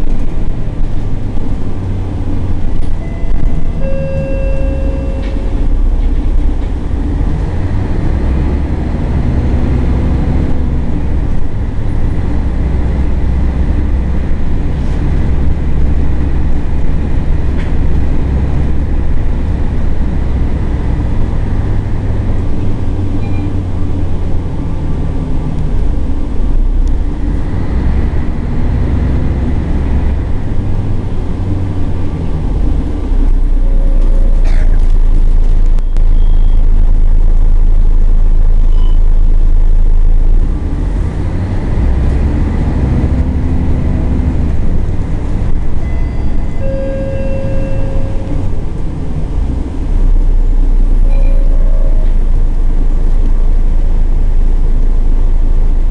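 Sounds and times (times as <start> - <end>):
bus diesel engine droning: 0.0 - 55.9.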